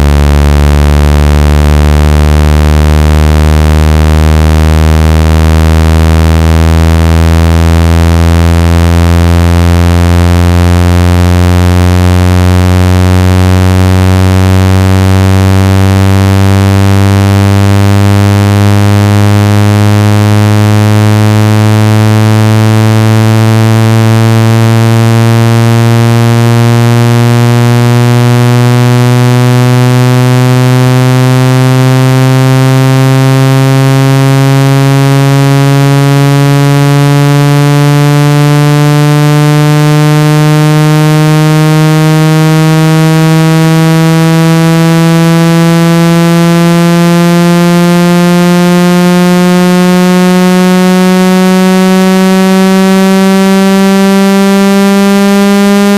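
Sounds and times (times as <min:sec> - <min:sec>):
rising buzzing tone: 0:00.0 - 0:55.9.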